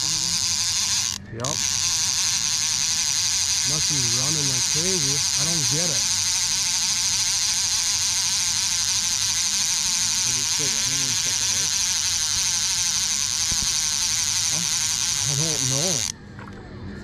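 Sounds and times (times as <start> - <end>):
night insects buzzing: 0.0 - 16.1.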